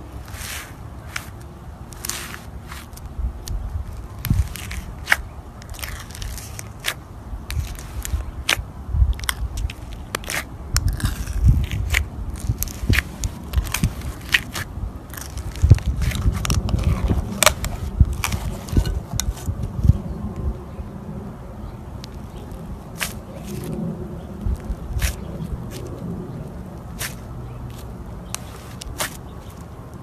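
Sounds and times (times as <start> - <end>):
slime squishing: 0.0 - 20.0, 22.0 - 30.0.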